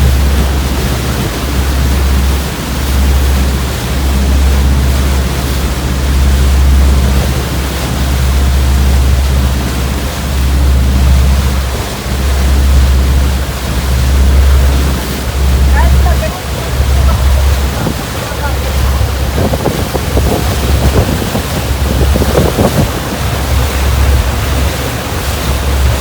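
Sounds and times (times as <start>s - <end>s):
heavy low rumble: 0.0s - 26.0s
rushing wind: 0.0s - 26.0s
sea water rushing past boat: 0.0s - 26.0s.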